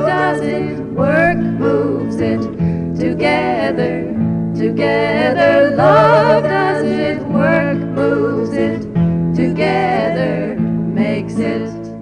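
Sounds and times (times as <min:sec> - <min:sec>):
voices singing held notes: 0:00.0 - 0:11.9
acoustic guitar: 0:00.0 - 0:12.0.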